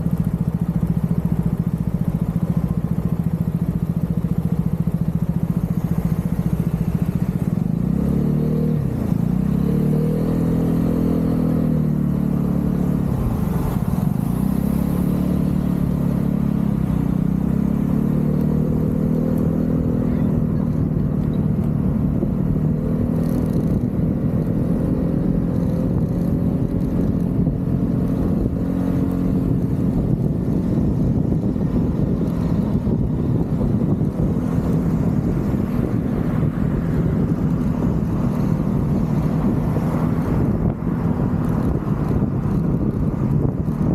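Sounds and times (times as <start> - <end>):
road and wind noise: 0.0 - 43.9
scooter engine running: 0.0 - 43.9.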